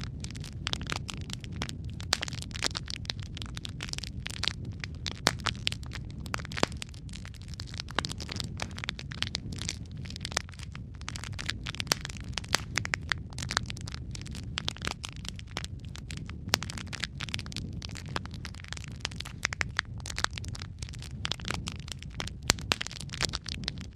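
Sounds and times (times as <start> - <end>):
burning wood crackling and popping: 0.0 - 23.9
low rumble of flames: 0.0 - 23.9.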